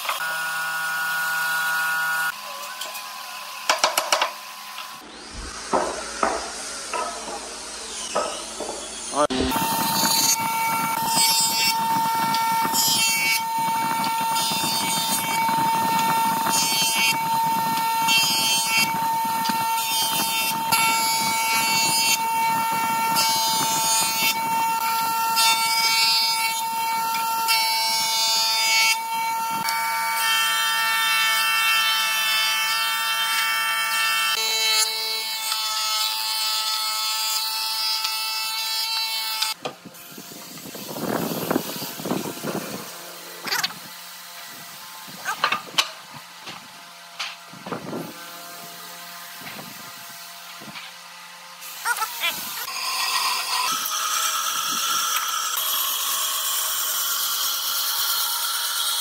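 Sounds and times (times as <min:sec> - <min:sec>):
power tool high-pitched whine: 0:00.0 - 0:59.0.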